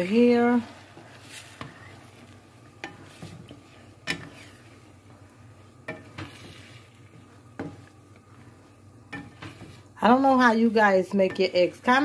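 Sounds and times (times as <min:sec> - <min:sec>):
faint sizzle: 0:00.0 - 0:12.0
spatula scraping eggs in a pan: 0:00.0 - 0:12.0.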